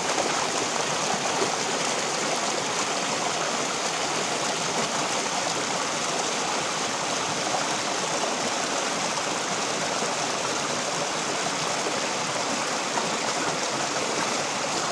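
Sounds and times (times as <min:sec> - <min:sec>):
running water rushing: 0:00.0 - 0:14.9.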